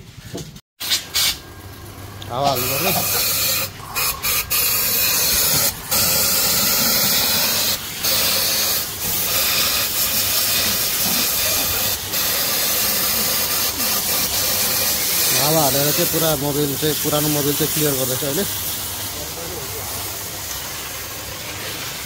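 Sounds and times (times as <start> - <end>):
loud steady hissing: 0.8 - 22.0.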